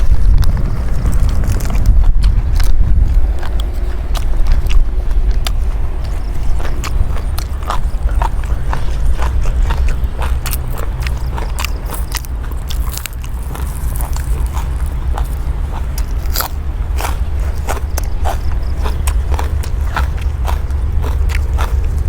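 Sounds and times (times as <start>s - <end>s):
chewing crunchy food: 0.0s - 22.0s
low rumble: 0.0s - 22.0s.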